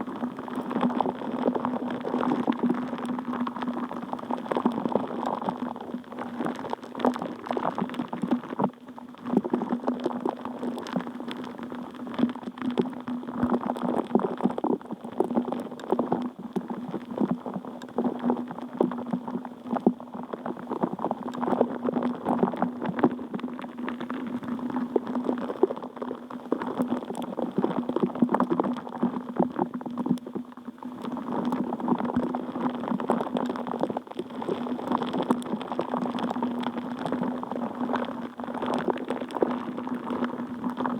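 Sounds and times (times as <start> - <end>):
water bubbling and gurgling: 0.0 - 40.9.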